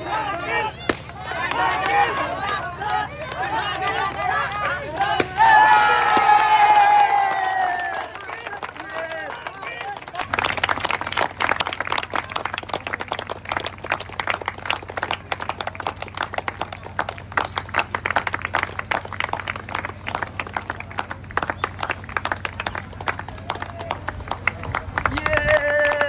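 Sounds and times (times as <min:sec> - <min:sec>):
crowd applauding: 0:00.0 - 0:26.0
low steady hum: 0:00.0 - 0:26.0.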